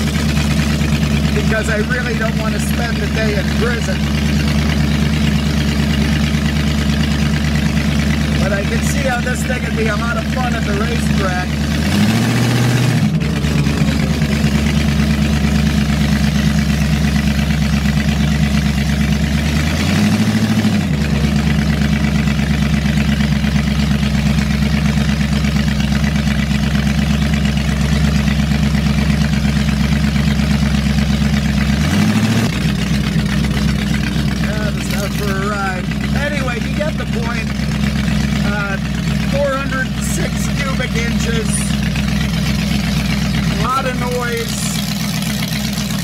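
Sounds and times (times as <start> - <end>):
v-eight engine revving: 0.0 - 46.0.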